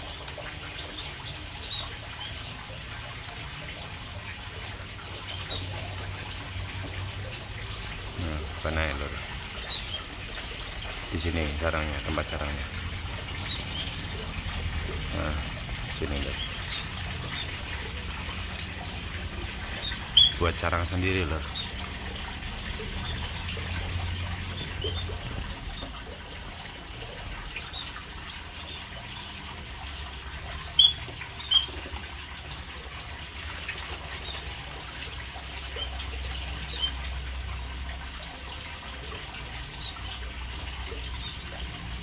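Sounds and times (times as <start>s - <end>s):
small birds chirping: 0.0s - 32.0s, 33.4s - 42.0s
running water hiss: 0.0s - 42.0s.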